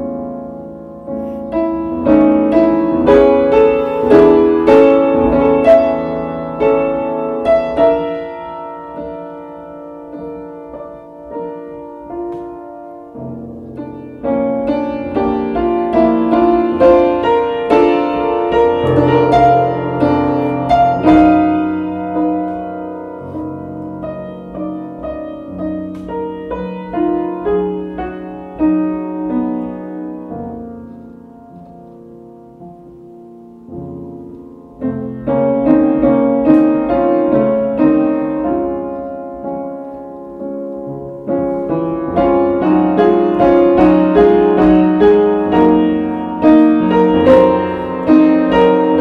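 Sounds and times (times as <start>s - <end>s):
solo piano music: 0.0s - 49.0s.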